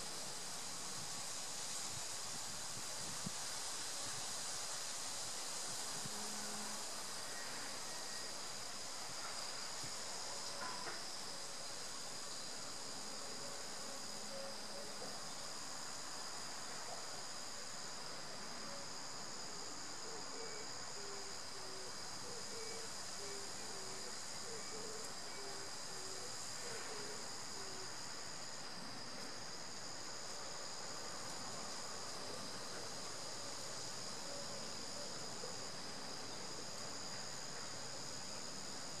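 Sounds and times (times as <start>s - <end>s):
high insect trill: 0.0s - 39.0s
insects buzzing high-pitched: 0.0s - 39.0s.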